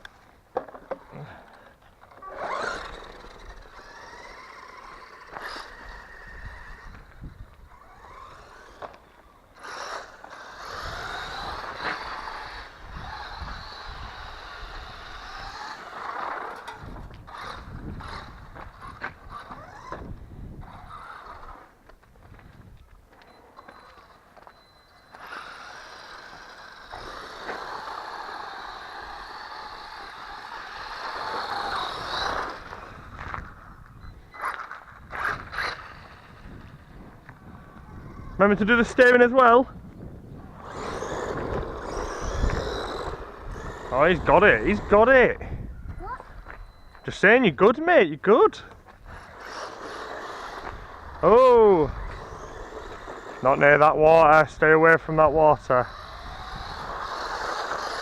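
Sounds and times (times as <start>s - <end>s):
rc car electric motor whining: 1.6s - 21.8s, 25.1s - 39.6s, 40.4s - 45.6s, 48.5s - 54.9s, 55.6s - 58.0s.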